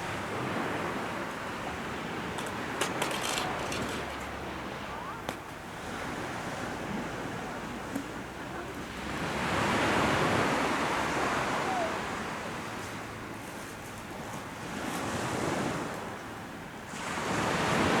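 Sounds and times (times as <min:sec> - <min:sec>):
sea surf breaking on shore: 0:00.0 - 0:13.3, 0:16.9 - 0:18.0.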